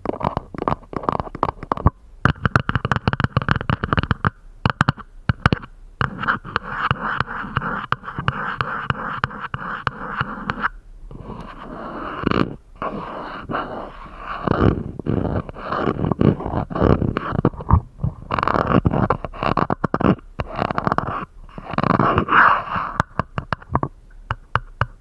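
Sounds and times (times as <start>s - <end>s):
rasping scratch on glass: 0.0s - 23.9s.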